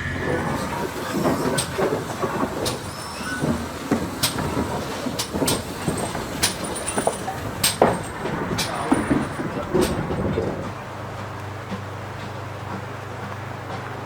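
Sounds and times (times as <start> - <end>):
sharp clanks and clicks: 0.0 - 14.0
train rumbling on track: 0.0 - 14.0.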